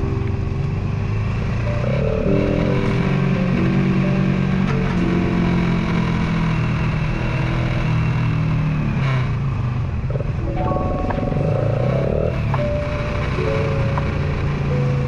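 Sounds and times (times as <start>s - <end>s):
motorcycle engine running: 0.2s - 10.4s, 11.0s - 15.0s.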